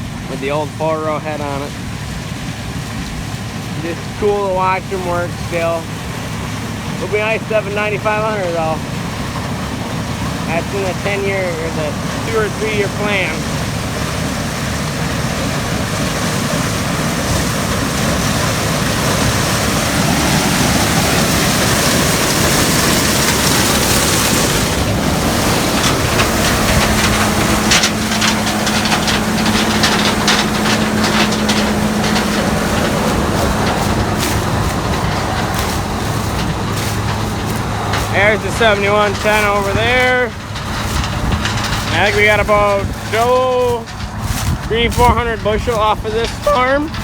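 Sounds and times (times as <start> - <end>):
combine harvester running: 0.0 - 47.0
rapid rattling and clicking: 0.0 - 47.0.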